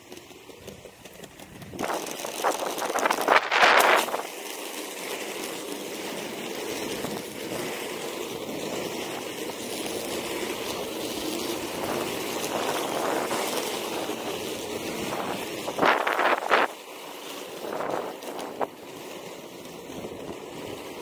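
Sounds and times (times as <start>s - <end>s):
skate wheels rolling on asphalt: 0.0s - 21.0s.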